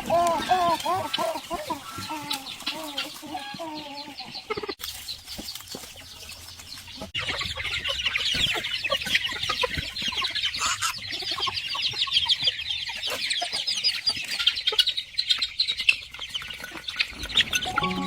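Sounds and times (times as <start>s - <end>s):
chickens clucking: 0.0s - 18.0s
chorus of rapid high chirping: 0.0s - 18.0s.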